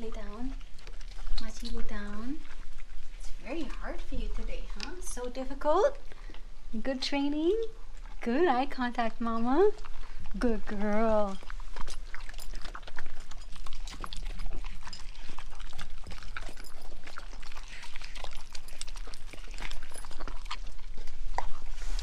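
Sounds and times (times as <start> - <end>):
dogs chewing and licking: 0.0 - 22.0.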